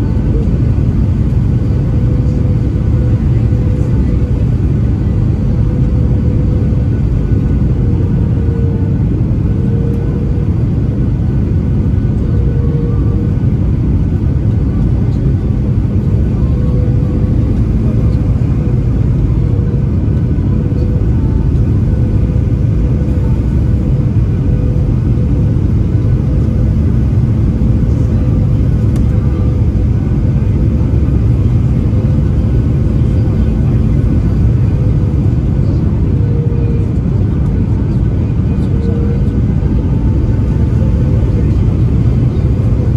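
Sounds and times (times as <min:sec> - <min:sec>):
airplane cabin engine rumble: 0:00.0 - 0:42.9
faint droning hum: 0:00.0 - 0:42.9.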